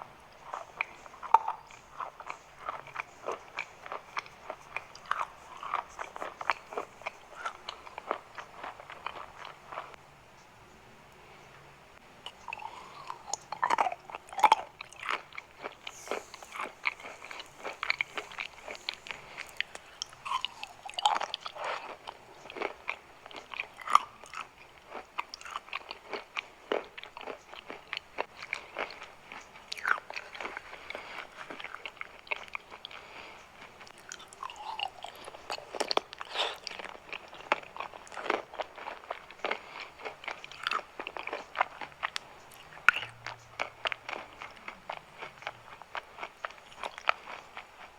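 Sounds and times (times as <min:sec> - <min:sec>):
chalk crunching when chewed: 0:00.4 - 0:10.0, 0:12.3 - 0:47.9.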